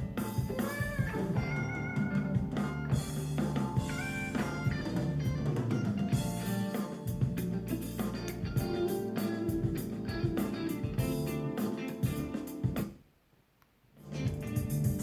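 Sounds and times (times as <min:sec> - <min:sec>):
blues-rock music on a speaker: 0:00.0 - 0:13.0, 0:14.0 - 0:15.0.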